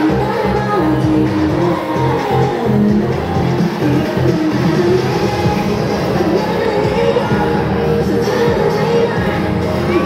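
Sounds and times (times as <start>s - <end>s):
dance music with guitar: 0.0s - 10.0s.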